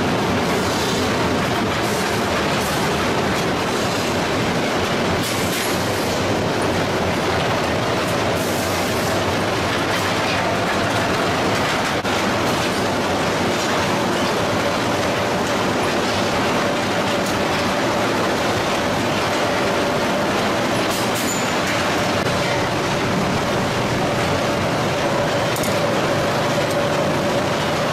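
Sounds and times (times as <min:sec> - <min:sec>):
rolling mill machinery clatter: 0:00.0 - 0:27.9.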